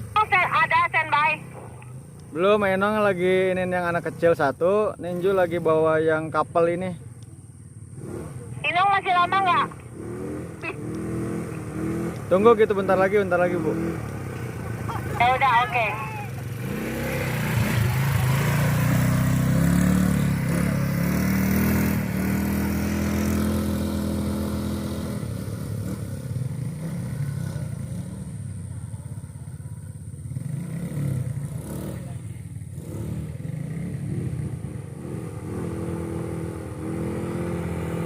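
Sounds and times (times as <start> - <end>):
atv engine revving: 0.0 - 38.0.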